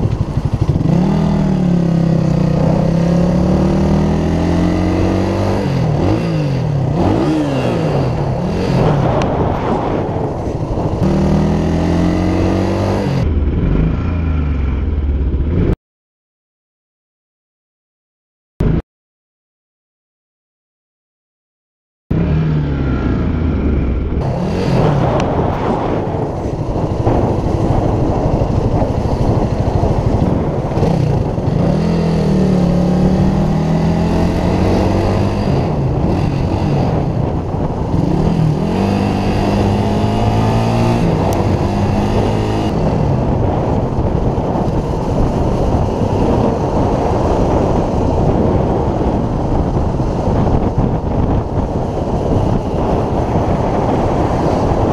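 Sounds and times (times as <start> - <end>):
wind on microphone: 0.0 - 13.4, 23.7 - 54.9
motorcycle engine revving: 0.0 - 15.8, 22.1 - 54.9.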